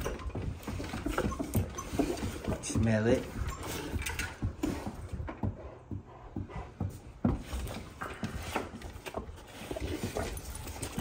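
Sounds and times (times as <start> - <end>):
dogs sniffing and panting: 0.0 - 11.0.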